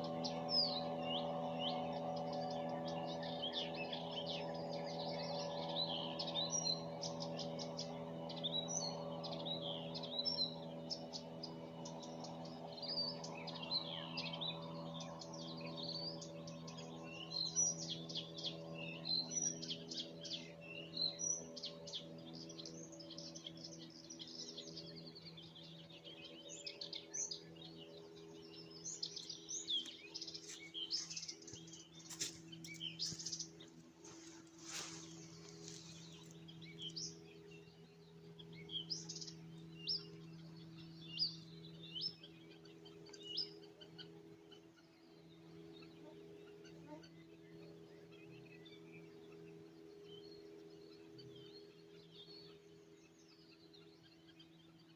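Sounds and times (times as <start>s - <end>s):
low hum of held tones: 0.0s - 54.9s
songbirds chirping and trilling: 0.0s - 54.9s.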